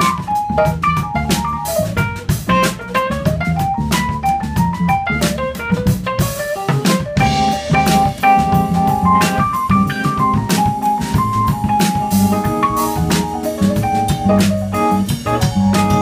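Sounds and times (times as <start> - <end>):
drum kit steady beat: 0.0 - 16.0
electronic keyboard melody: 0.0 - 16.0.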